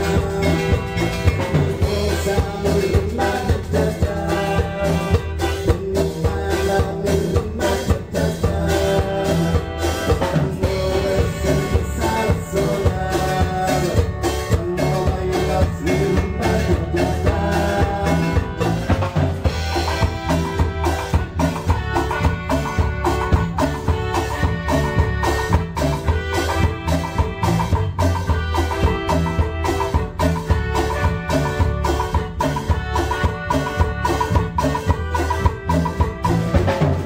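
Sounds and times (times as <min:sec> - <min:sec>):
drum kit beat: 0:00.0 - 0:37.0
instrumental band music: 0:00.0 - 0:37.0.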